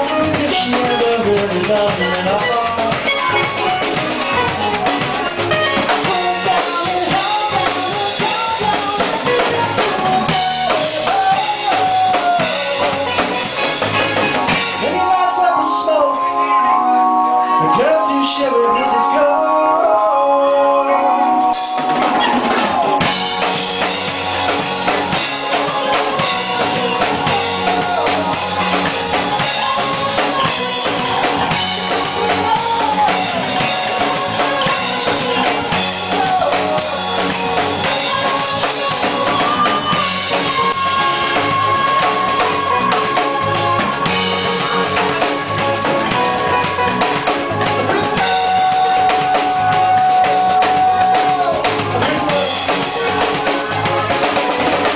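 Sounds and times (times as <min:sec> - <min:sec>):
drum kit beat: 0:00.0 - 0:16.8, 0:17.6 - 0:54.9
live rock band playing: 0:00.0 - 0:54.9.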